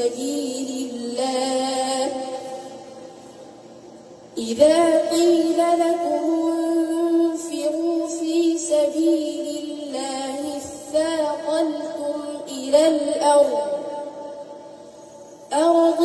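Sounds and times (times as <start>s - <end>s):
boy chanting into a microphone: 0.0s - 3.6s, 4.3s - 16.0s.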